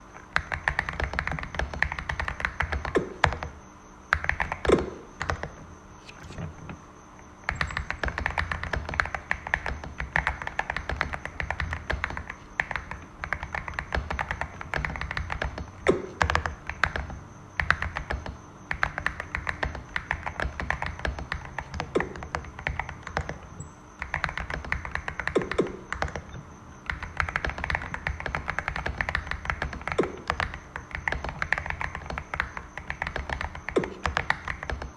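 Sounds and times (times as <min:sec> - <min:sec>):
mechanical keyboard typing: 0:00.3 - 0:06.7, 0:07.5 - 0:34.9.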